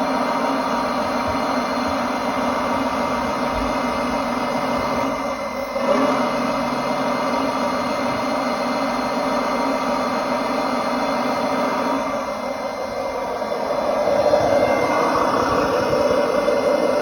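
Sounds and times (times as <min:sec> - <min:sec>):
construction machine engine running: 0:00.0 - 0:17.0.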